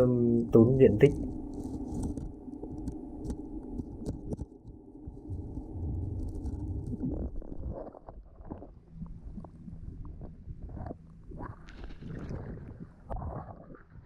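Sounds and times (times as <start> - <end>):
faint steady hum: 0.0 - 13.8
low underwater rumbles and knocks: 1.1 - 14.0.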